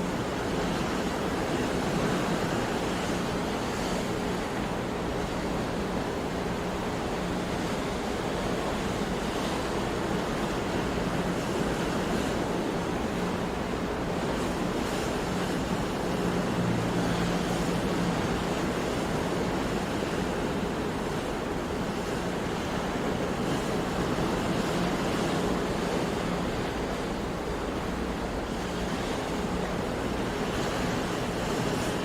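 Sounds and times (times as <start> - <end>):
sea surf washing in: 0.0 - 32.0.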